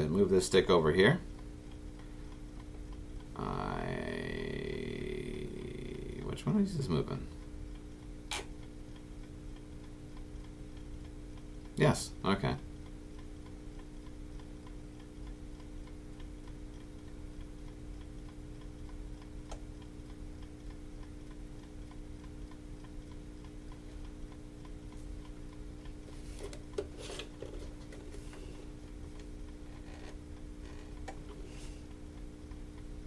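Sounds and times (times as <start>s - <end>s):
faint regular ticking: 0.0s - 33.0s
low electrical hum: 0.0s - 33.0s.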